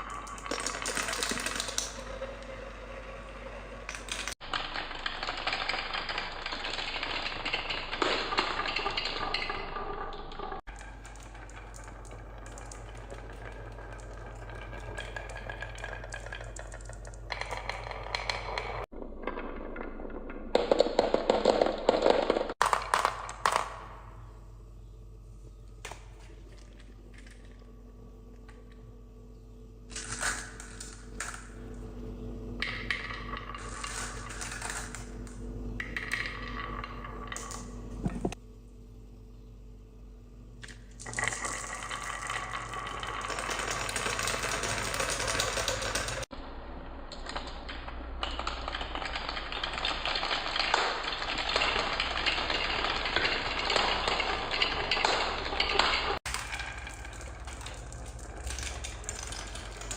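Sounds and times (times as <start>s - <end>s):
marbles clattering on track: 0.0s - 24.1s, 29.9s - 31.9s, 32.5s - 38.4s, 40.6s - 46.4s, 47.1s - 59.9s.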